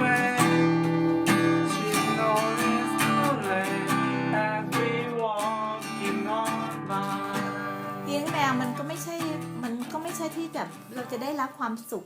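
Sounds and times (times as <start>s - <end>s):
strummed acoustic guitar: 0.0s - 11.6s.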